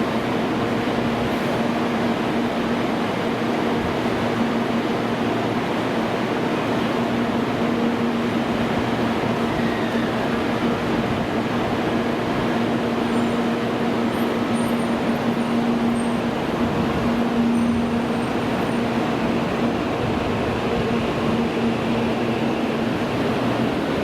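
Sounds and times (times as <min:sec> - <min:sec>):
train platform rumble and hum: 0:00.0 - 0:24.0.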